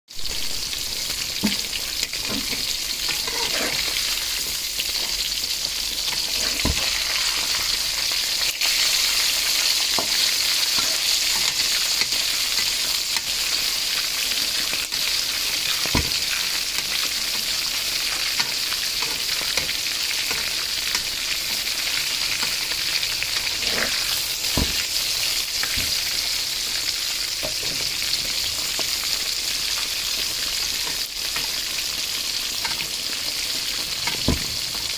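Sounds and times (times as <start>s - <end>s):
chicken sizzling in hot oil: 0.1s - 34.9s.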